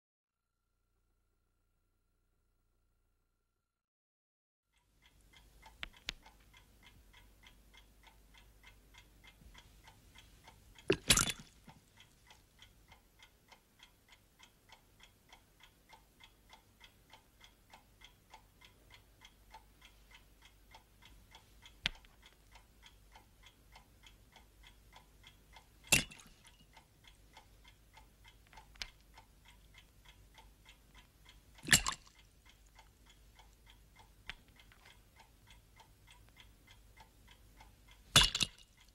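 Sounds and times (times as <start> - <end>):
clock ticking: 4.7 - 38.9.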